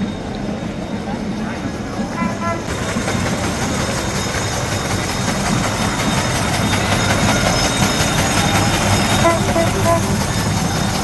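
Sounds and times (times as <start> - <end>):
bus engine pulsing rumble: 0.0 - 11.0.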